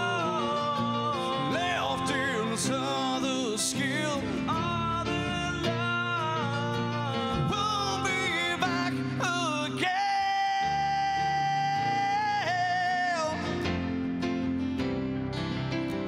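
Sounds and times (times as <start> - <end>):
man singing: 0.0 - 14.4
strummed acoustic guitars: 0.0 - 16.0.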